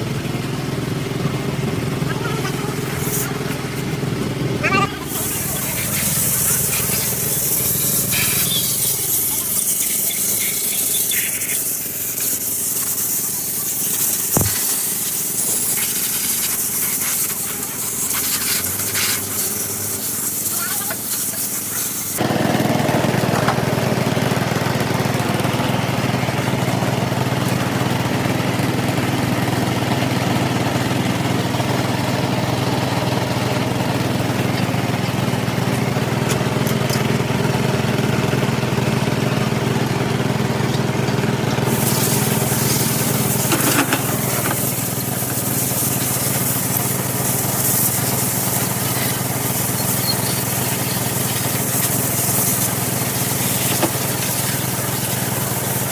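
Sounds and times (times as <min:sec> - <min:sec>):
engine running steadily: 0:00.0 - 0:55.9.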